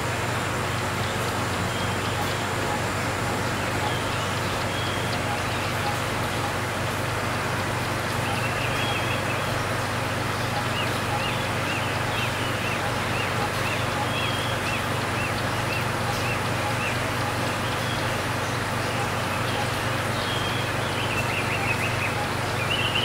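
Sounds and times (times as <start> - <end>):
aquarium air pump hiss and hum: 0.0 - 23.0.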